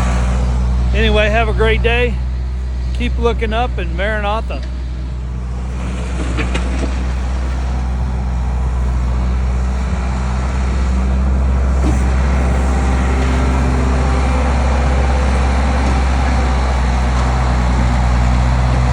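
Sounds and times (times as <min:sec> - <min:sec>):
skid steer engine under load: 0:00.0 - 0:18.9.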